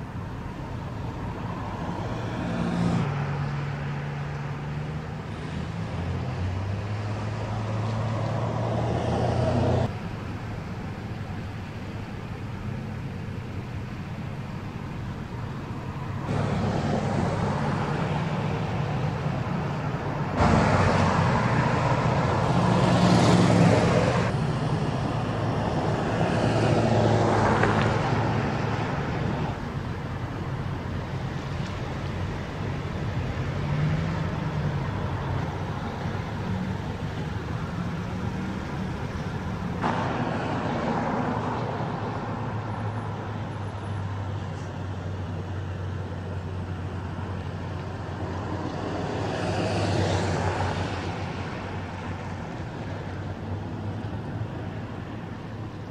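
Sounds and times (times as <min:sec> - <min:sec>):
truck engines humming: 0:00.0 - 0:55.9
tyre and road noise: 0:00.0 - 0:55.9.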